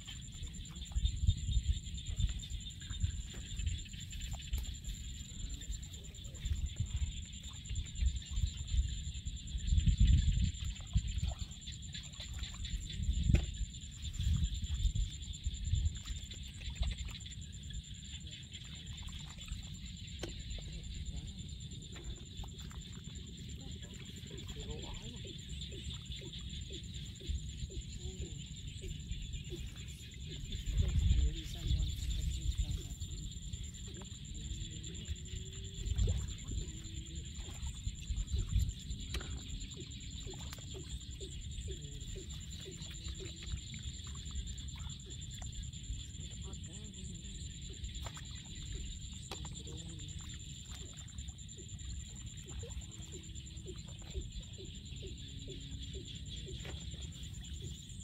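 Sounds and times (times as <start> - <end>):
high-pitched insect trill: 0.0 - 58.0.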